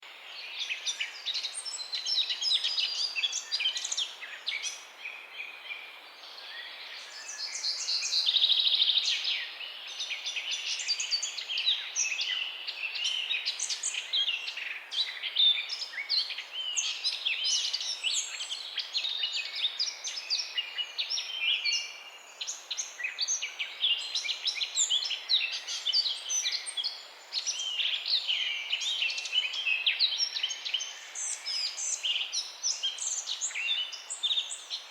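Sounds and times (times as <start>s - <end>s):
outdoor background hiss: 0.0s - 34.9s
songbirds chirping and singing: 0.0s - 34.9s.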